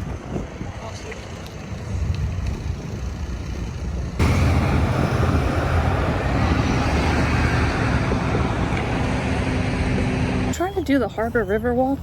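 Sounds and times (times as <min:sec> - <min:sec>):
motor vehicle hum: 0:00.0 - 0:11.2
outdoor rumble: 0:00.1 - 0:11.1.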